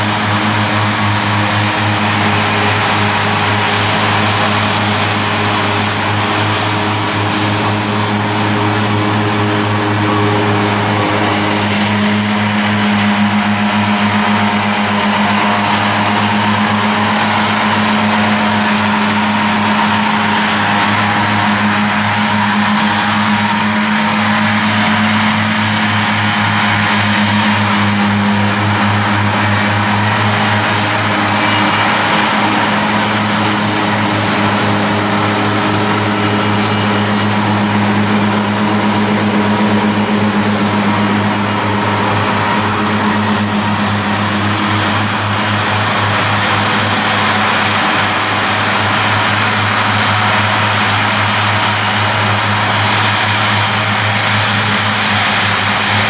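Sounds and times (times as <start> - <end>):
diesel engine hum: 0.0 - 56.0
mower discs whirring: 0.0 - 56.0.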